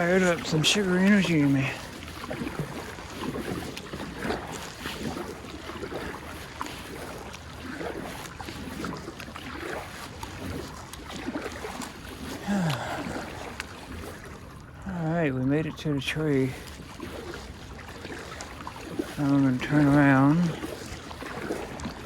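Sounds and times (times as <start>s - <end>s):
kayak paddle splashing water: 0.0s - 22.0s.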